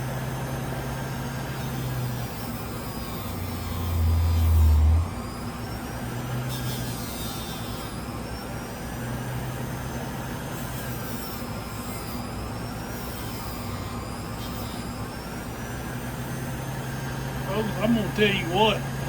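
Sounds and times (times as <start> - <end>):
wavering metal whine: 0.0 - 19.0.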